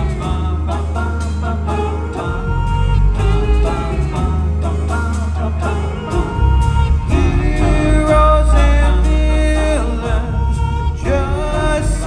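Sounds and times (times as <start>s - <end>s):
harmony singing: 0.0s - 12.0s
live pop-rock band playing: 0.0s - 12.0s.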